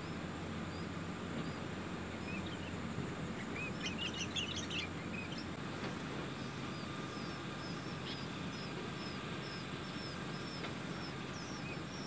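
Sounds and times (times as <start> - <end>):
faint bird peeps: 0.0 - 5.5, 6.4 - 12.0
songbirds chirping: 0.0 - 12.0
steady low background noise: 0.0 - 12.0.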